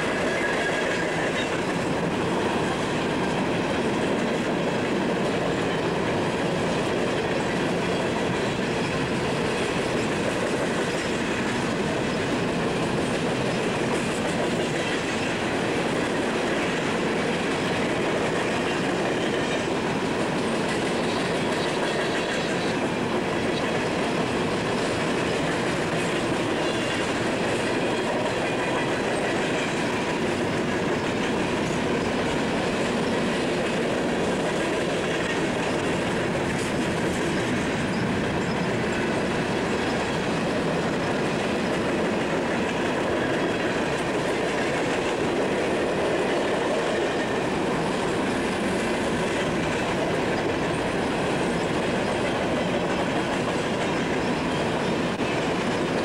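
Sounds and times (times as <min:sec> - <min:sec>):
steel wheels rolling on rail: 0:00.0 - 0:56.0.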